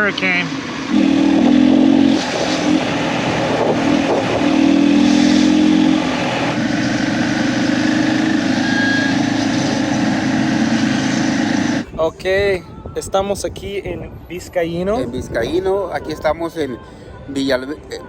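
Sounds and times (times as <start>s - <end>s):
wind noise: 0.0s - 16.4s
road noise: 0.0s - 18.0s.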